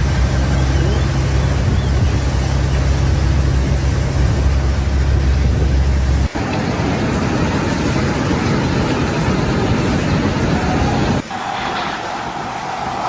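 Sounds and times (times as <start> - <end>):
floodwater roaring: 0.0 - 13.0.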